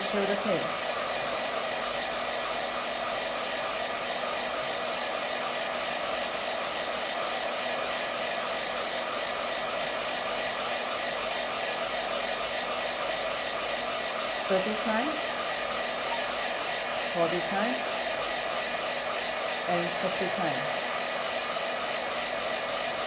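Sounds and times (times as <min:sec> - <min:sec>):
fan blowing air: 0:00.0 - 0:23.0.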